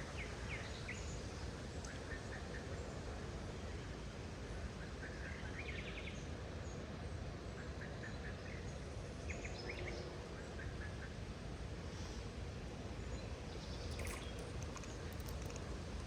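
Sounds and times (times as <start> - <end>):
outdoor background rush: 0.0 - 16.0.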